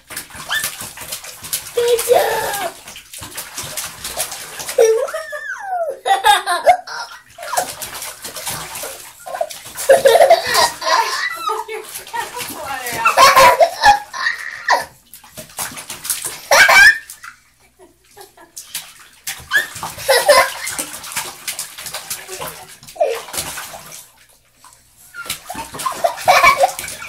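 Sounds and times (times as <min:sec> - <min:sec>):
baby splashing water: 0:00.0 - 0:27.0.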